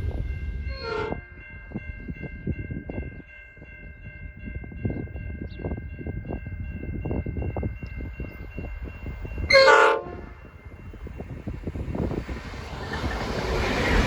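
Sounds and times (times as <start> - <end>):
low train rumble: 0.0 - 14.0.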